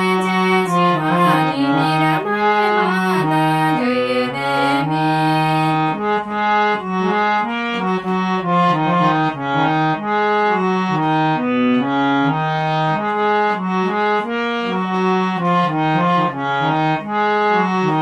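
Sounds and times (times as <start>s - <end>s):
harmonium melody: 0.0s - 18.0s.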